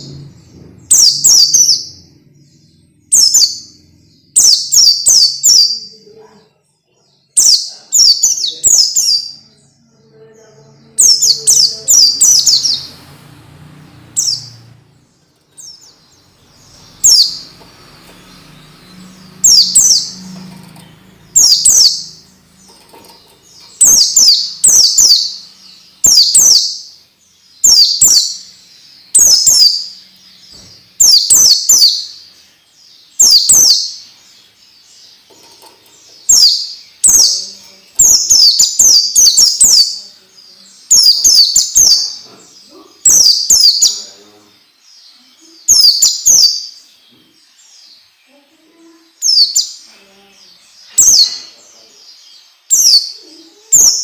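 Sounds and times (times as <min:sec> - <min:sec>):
bird singing rapid chirps: 0:00.0 - 0:54.0.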